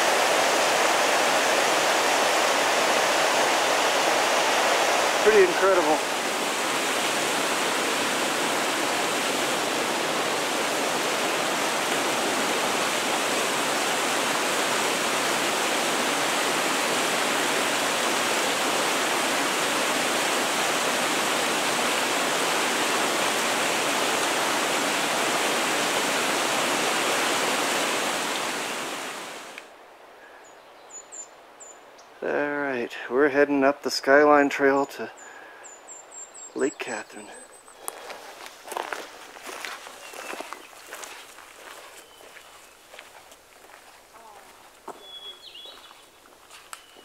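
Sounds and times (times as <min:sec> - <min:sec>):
creek cascading over rocks: 0:00.0 - 0:29.8, 0:37.7 - 0:47.0.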